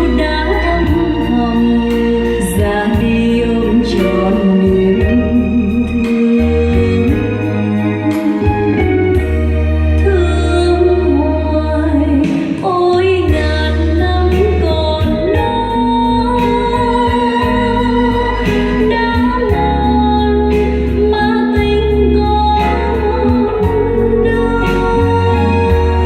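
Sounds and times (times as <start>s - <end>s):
keyboard: 0.0s - 26.0s
person singing: 0.0s - 26.0s
steady bass line: 0.0s - 26.0s.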